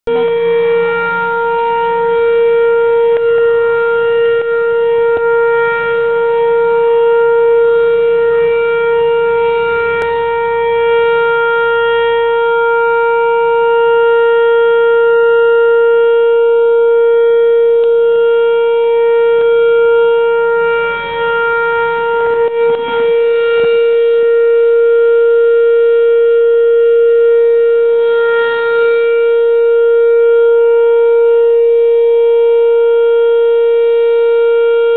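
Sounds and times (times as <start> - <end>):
warning siren steady tone: 0.0 - 34.9.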